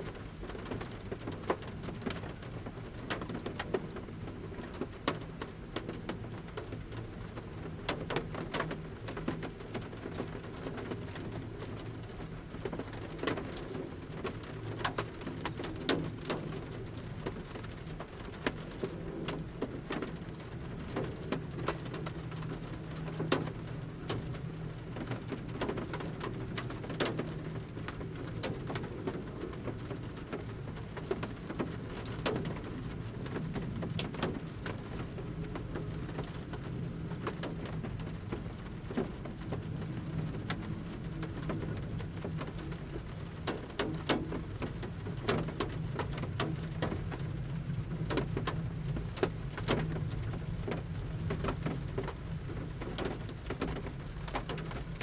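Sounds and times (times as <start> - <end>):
raindrops tapping on van roof: 0.0 - 55.0
soft rain hiss: 0.0 - 55.0.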